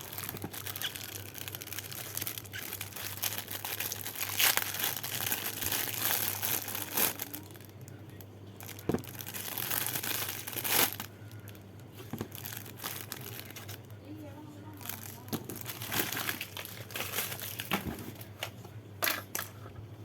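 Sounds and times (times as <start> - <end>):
packaging crackles: 0.0 - 8.0, 8.6 - 18.3
packaging crinkling: 0.0 - 8.0, 8.6 - 18.3.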